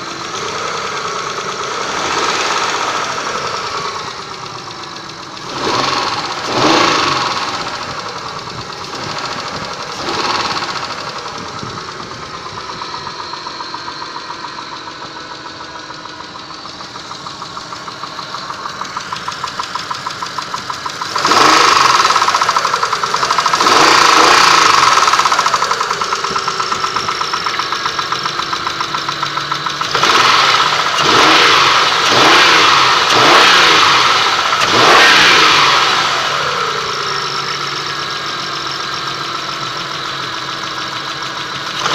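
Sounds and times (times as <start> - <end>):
engine idling with rhythmic knock: 0.0 - 41.9
engine revving: 0.0 - 41.9.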